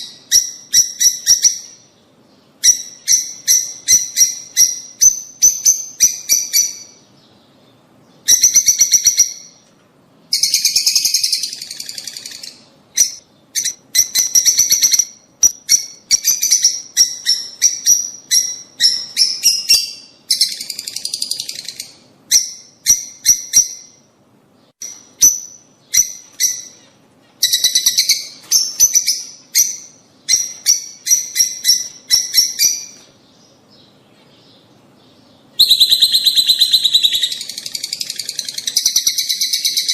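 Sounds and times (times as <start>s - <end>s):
lovebirds chirping shrilly: 0.0s - 9.6s, 10.3s - 39.9s.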